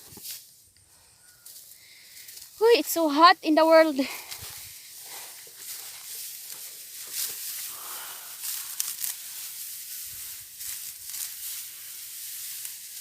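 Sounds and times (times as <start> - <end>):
dry rice stalks rustling: 0.0 - 13.0
steady high hiss: 0.0 - 13.0.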